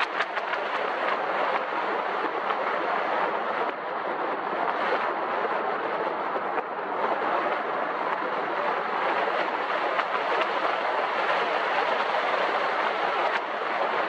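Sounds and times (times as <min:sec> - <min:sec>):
air and tyre noise from moving car: 0:00.0 - 0:14.0.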